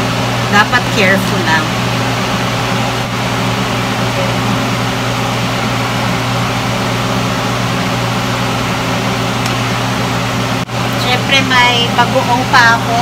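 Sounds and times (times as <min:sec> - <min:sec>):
fan whirring hum: 0:00.0 - 0:13.0.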